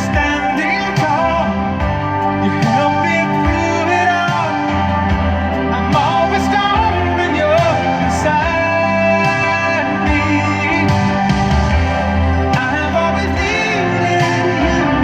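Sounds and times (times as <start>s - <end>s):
song through car speakers: 0.0s - 15.0s.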